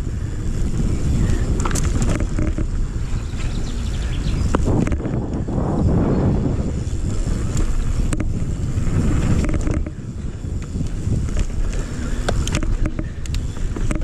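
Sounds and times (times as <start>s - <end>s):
bike rattling and knocking: 0.0s - 14.0s
wind buffeting microphone: 0.0s - 14.0s.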